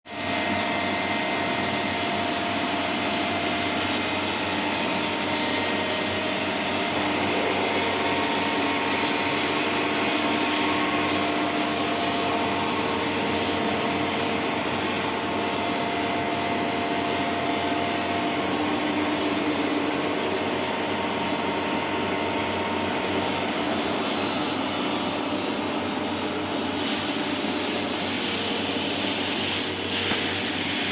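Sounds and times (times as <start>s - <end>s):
electric fan whirring: 0.2s - 30.9s.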